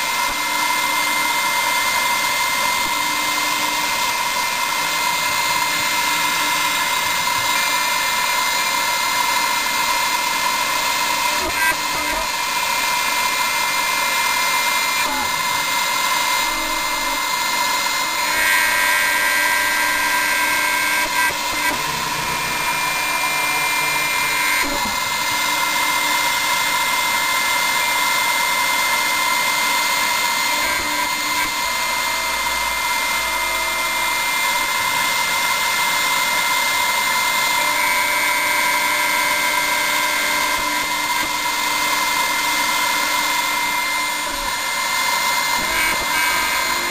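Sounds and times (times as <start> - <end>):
machine whining tones: 0.0 - 46.9
milling spindle whining and cutting: 0.0 - 46.9.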